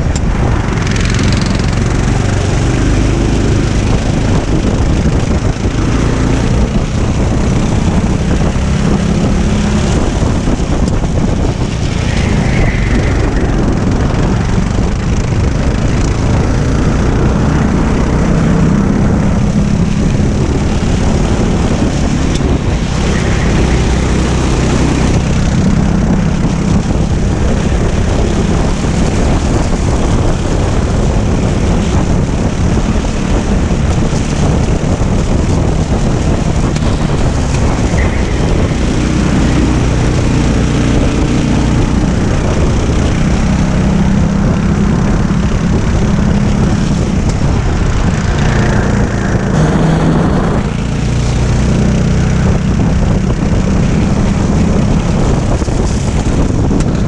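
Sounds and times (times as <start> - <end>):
racing kart engine: 0.0 - 57.0
wind noise on microphone: 0.0 - 57.0.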